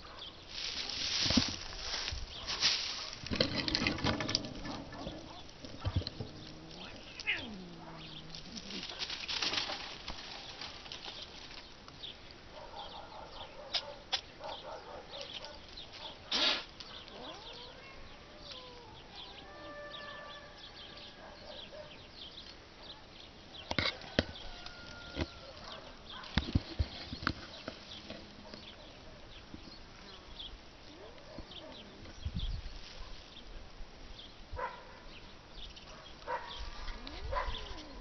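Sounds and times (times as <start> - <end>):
dry grass and twigs crackling: 0.0 - 34.8, 35.4 - 38.0.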